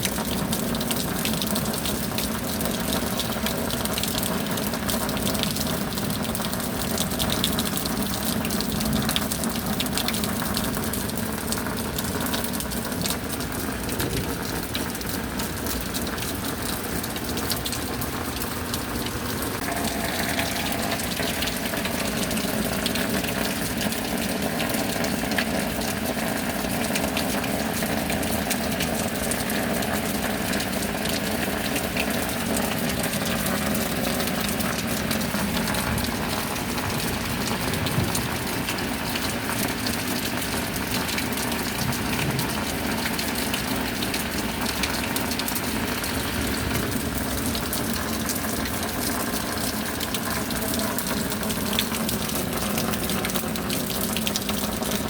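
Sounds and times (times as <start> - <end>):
pouring rainwater rushing: 0.0 - 55.0.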